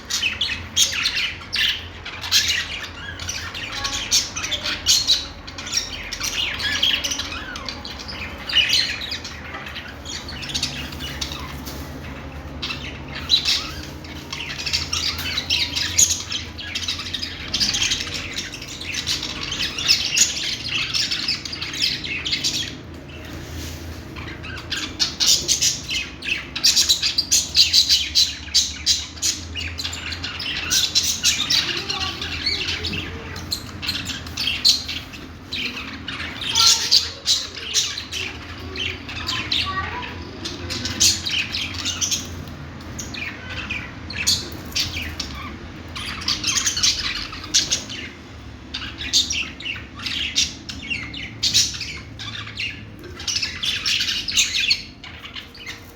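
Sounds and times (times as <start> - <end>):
budgerigars chirping and chattering: 0.0 - 55.9.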